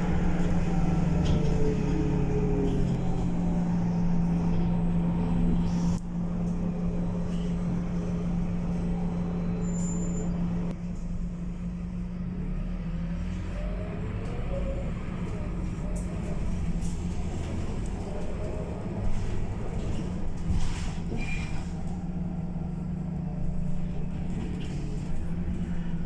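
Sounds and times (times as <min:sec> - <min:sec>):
bus engine droning: 0:00.0 - 0:26.0.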